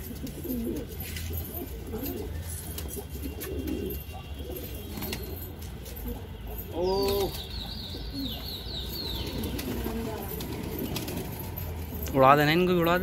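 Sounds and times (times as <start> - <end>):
pigeons cooing: 0.0 - 12.1.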